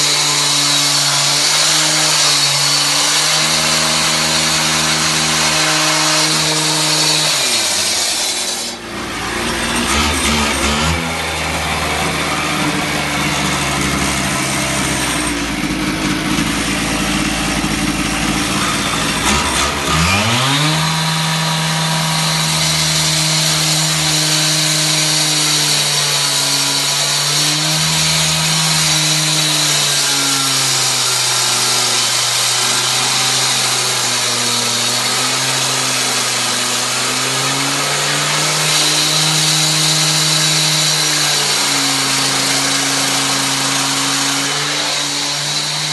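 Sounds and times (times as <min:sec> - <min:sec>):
cut-off saw engine revving: 0:00.0 - 0:45.9.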